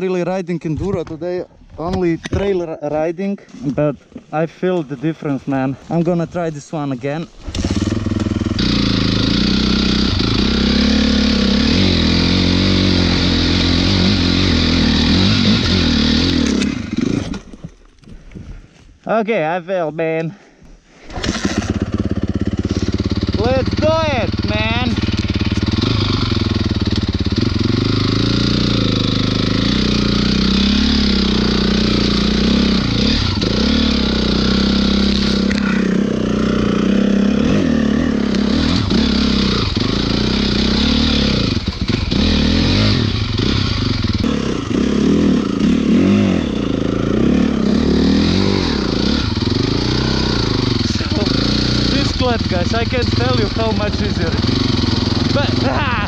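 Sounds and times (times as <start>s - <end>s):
dirt bike engine revving: 7.4s - 17.5s, 21.1s - 56.0s.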